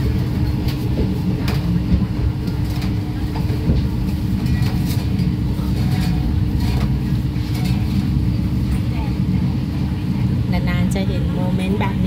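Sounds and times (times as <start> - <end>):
train carriage rumble and hum: 0.0 - 12.0.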